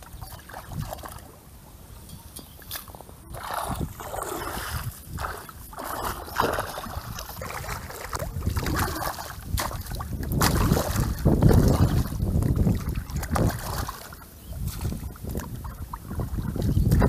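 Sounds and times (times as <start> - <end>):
muddy water splashing: 0.0 - 1.5, 2.6 - 17.0.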